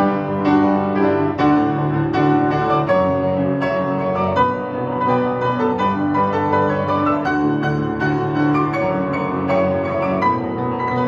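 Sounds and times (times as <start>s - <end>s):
piano duet: 0.0s - 11.0s.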